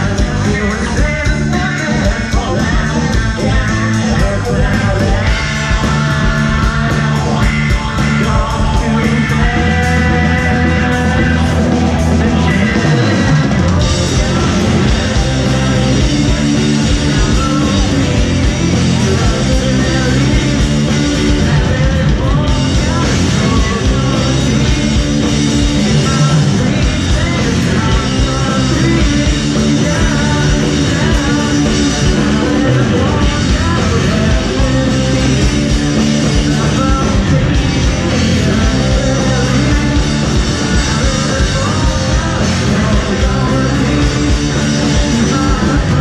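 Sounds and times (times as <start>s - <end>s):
rock band playing live: 0.0s - 46.0s
steady drumbeat: 0.0s - 46.0s.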